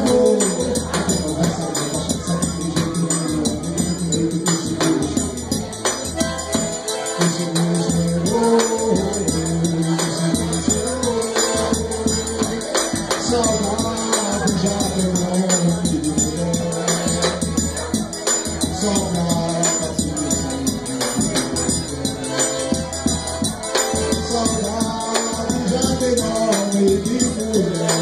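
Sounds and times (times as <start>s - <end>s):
accordion melody: 0.0s - 28.0s
bass drum beat: 0.0s - 28.0s
high percussion ticking: 0.0s - 28.0s.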